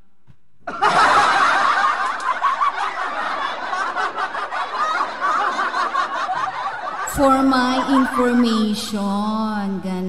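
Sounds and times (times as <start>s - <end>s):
canned laugh track: 0.7s - 9.7s.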